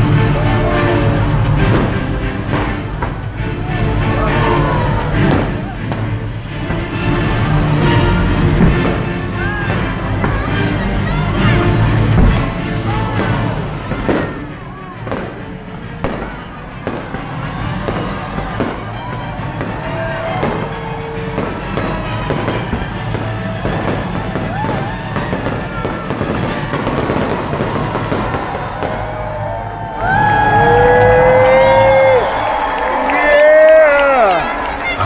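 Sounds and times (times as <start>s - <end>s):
crowd voices: 0.0s - 35.0s
music: 0.0s - 35.0s
fireworks bursting and crackling: 0.7s - 30.0s.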